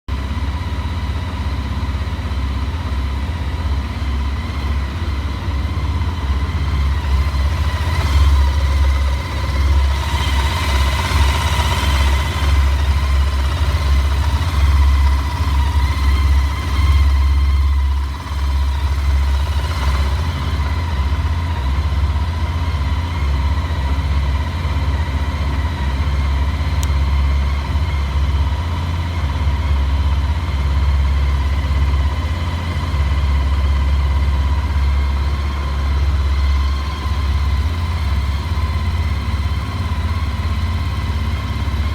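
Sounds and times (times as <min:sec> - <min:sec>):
motorcycle engine idling: 0:00.1 - 0:41.9.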